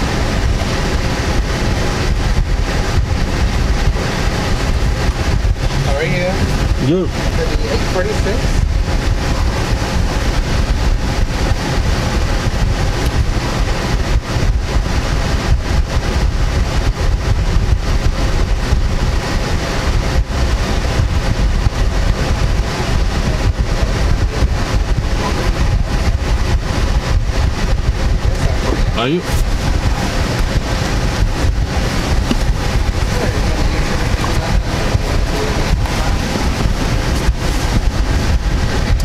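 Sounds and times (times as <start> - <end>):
car engine idling: 0.0 - 39.0
wind buffeting microphone: 0.0 - 39.0.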